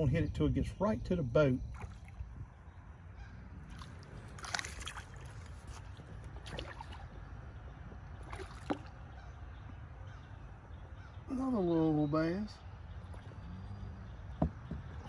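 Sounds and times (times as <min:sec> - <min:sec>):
bird calling: 0:00.9 - 0:15.0.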